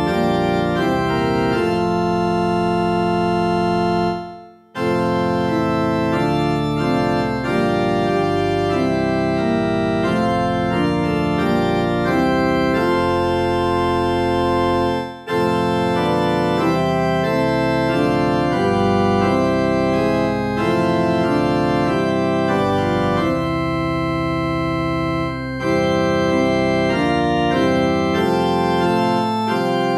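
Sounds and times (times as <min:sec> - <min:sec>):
organ music in held chords: 0:00.0 - 0:29.9.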